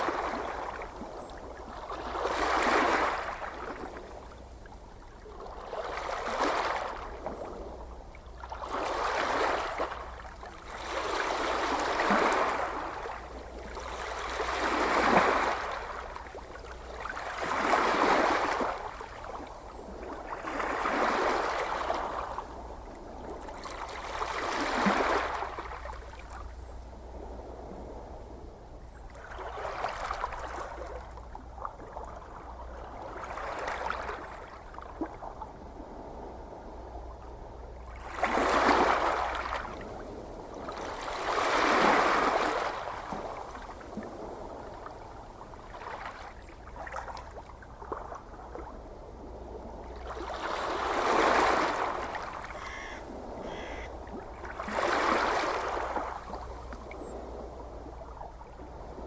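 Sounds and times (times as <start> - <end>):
gentle ocean waves: 0.0 - 59.0.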